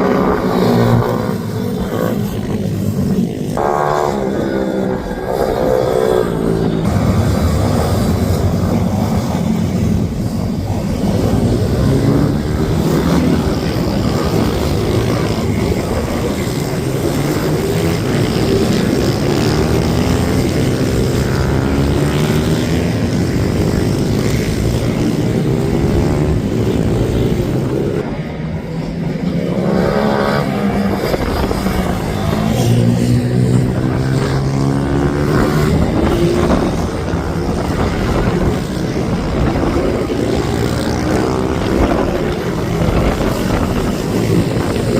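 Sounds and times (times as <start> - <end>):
minibike engines revving: 0.0 - 44.9.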